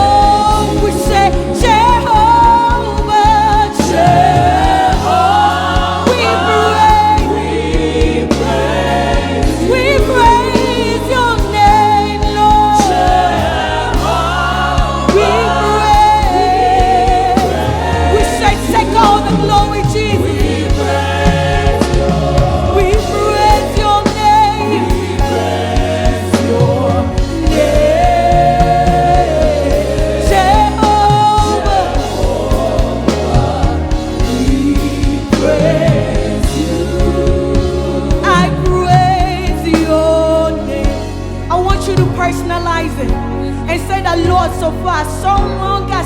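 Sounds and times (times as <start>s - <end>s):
choir singing: 0.0s - 42.0s
voices singing with vibrato: 0.0s - 42.0s
band with low bass notes: 0.0s - 46.0s.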